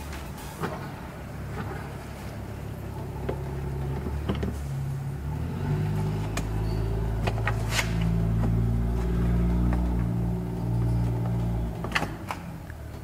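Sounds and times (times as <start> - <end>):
low motor hum: 1.0 - 13.0.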